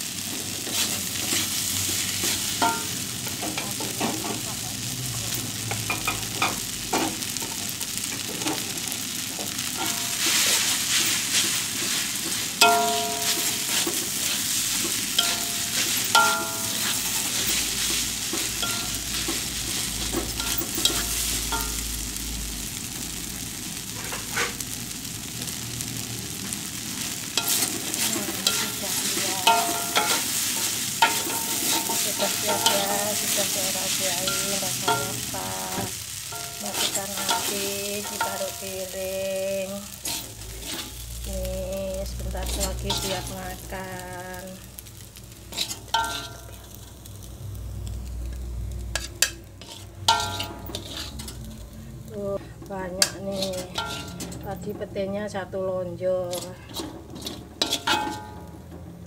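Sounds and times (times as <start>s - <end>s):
rice sizzling in a wok: 0.0s - 59.0s
metal utensil scraping a wok: 0.3s - 4.6s, 8.3s - 22.0s, 23.9s - 24.7s, 27.3s - 44.3s, 44.9s - 47.0s, 48.2s - 54.9s, 56.1s - 59.0s.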